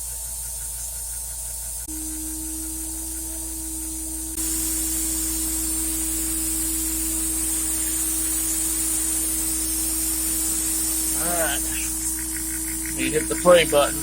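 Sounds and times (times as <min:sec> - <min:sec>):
router spindle whine and hiss: 0:01.8 - 0:14.0.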